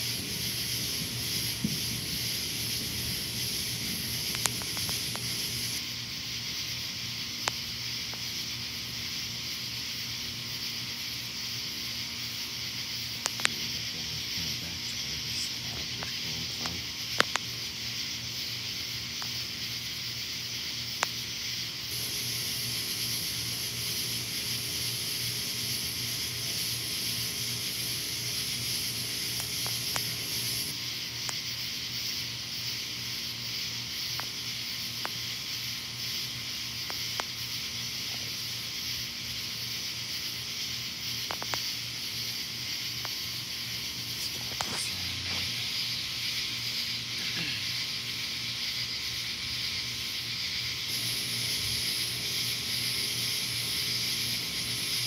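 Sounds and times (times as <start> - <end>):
insect buzzing trill: 0.0 - 55.0
shrill insect layer: 0.0 - 55.0.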